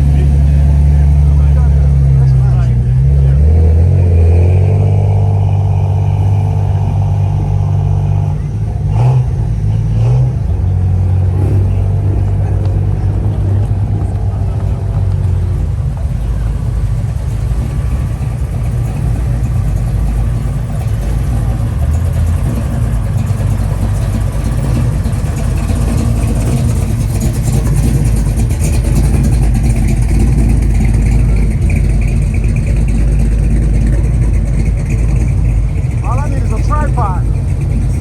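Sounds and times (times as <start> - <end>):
cars driving slowly past: 0.0 - 38.0.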